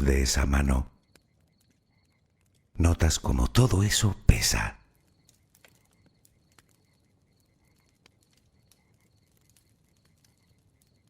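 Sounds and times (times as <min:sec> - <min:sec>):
bonfire crackling: 0:00.0 - 0:11.0.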